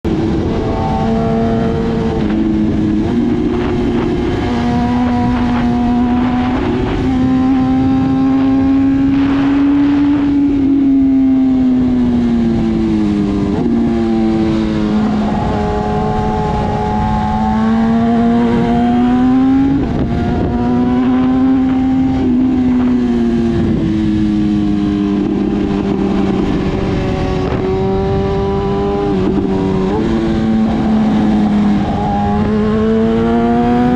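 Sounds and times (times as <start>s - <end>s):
wind noise: 0.0s - 33.9s
motorcycle engine revving: 0.1s - 33.9s.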